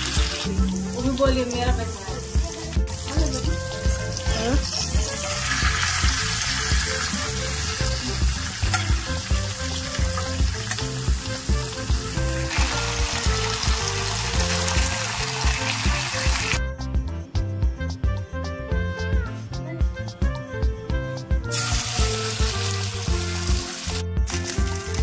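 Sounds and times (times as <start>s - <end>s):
meat sizzling on a hot pan: 0.0s - 16.6s, 21.5s - 25.0s
background music: 0.0s - 25.0s.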